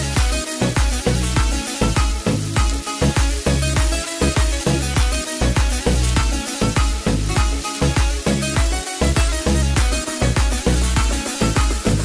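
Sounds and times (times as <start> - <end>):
music with quick beat: 0.0 - 12.0.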